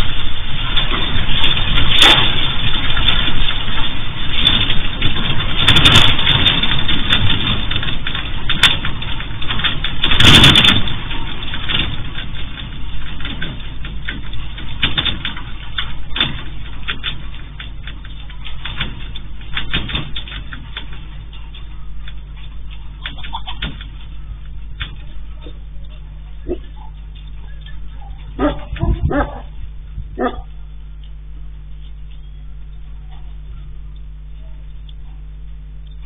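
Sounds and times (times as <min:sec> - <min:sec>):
sharp rattling clicks: 0:00.0 - 0:33.3
earthquake deep rumble: 0:00.0 - 0:36.0.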